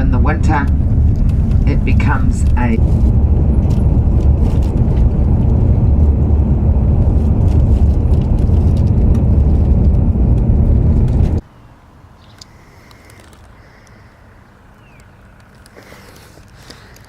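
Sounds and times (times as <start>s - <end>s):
coach engine and road rumble: 0.0s - 17.0s.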